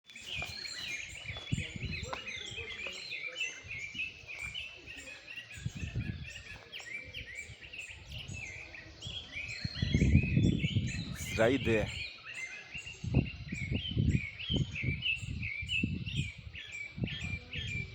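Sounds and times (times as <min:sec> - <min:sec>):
birds chirping in chorus: 0:00.1 - 0:17.9.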